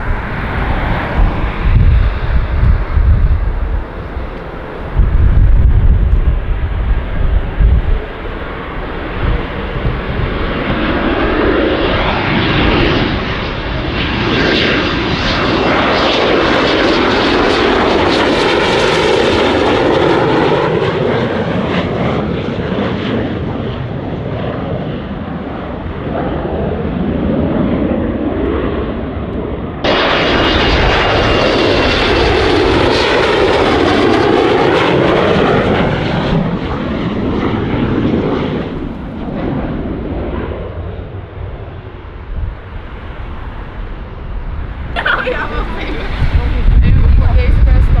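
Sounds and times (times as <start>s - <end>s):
jet fighters passing low: 0.0s - 48.0s.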